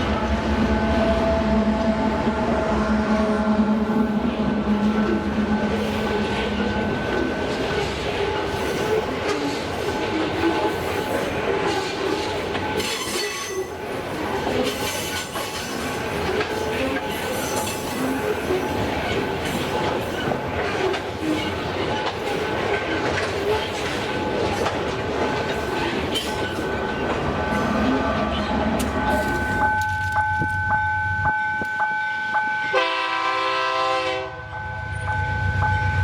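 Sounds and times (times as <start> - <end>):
freight train wheels clicking on rails: 3.8 - 32.7.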